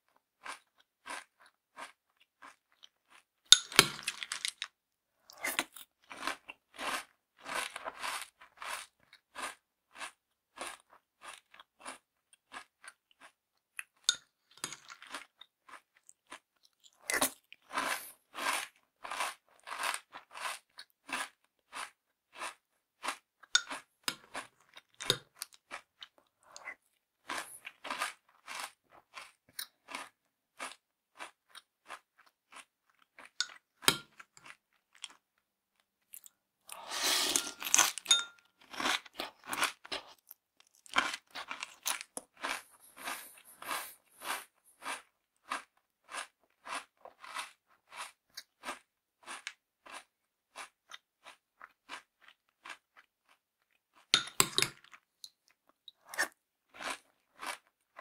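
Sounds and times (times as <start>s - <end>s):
cereal crunching while chewed: 0.0s - 58.0s.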